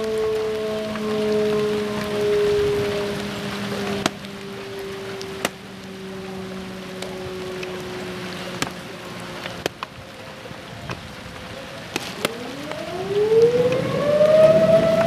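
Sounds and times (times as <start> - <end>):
warning siren wailing: 0.0 - 9.5, 12.1 - 15.0.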